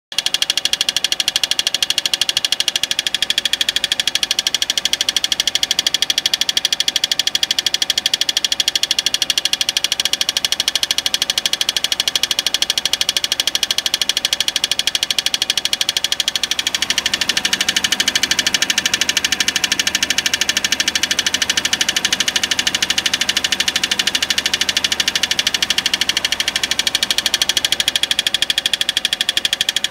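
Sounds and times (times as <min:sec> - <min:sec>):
car engine ticking: 0:00.1 - 0:29.9.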